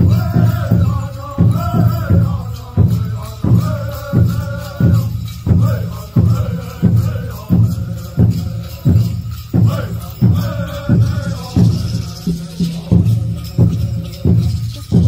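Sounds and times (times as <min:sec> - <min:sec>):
men's chorus singing: 0:00.0 - 0:15.0
rattles shaking: 0:00.0 - 0:15.0
steady drum beat: 0:00.0 - 0:15.0.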